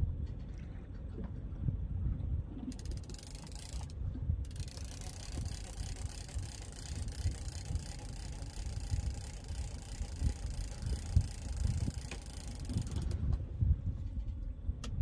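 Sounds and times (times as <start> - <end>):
water against boat hull: 0.0 - 15.0
wind buffeting microphone: 0.0 - 15.0.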